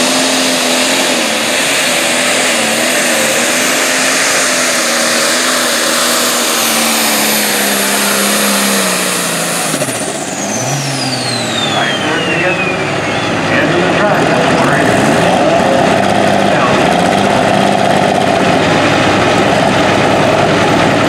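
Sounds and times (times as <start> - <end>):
diesel engine under full load: 0.0 - 21.0
high turbo whine: 0.0 - 21.0.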